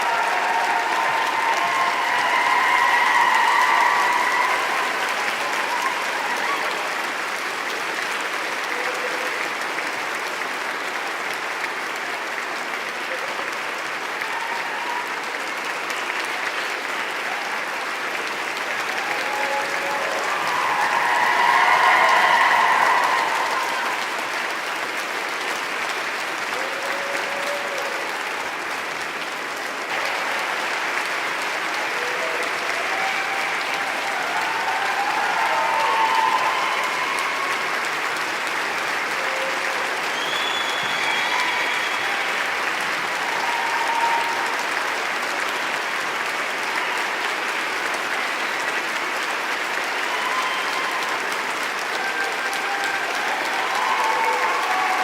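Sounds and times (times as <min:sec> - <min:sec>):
crowd applauding: 0:00.0 - 0:55.0
people cheering: 0:00.0 - 0:55.0.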